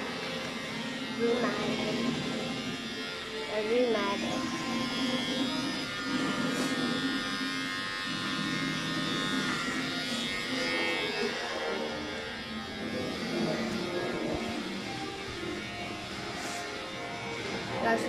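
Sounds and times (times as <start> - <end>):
electric hair clippers buzzing: 0.0 - 18.0.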